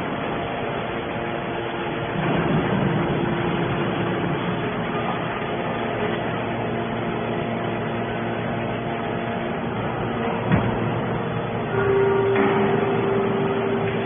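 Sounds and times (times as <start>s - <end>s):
hydraulic baler drone: 0.1s - 14.0s
hydraulic whine: 0.3s - 14.0s.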